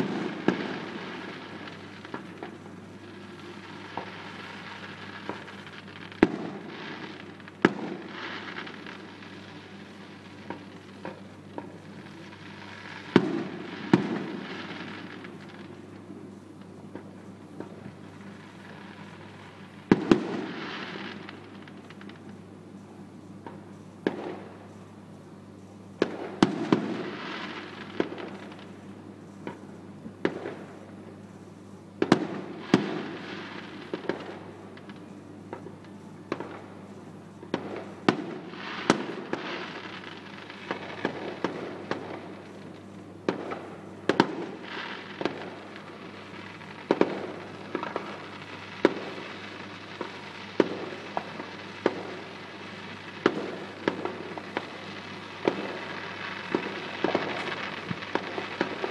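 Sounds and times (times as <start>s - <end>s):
firework crackle: 0.0s - 58.9s.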